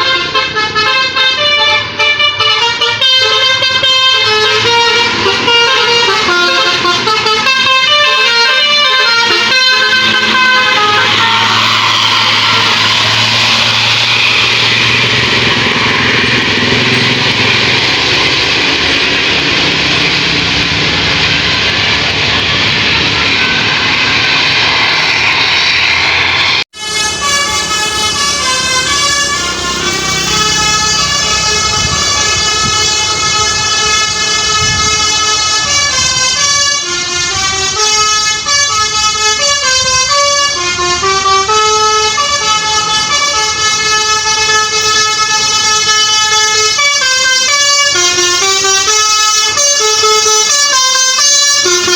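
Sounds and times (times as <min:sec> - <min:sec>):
musical horn tune: 0:00.0 - 0:21.0, 0:26.7 - 0:51.9
bus engine and road noise: 0:00.0 - 0:51.9.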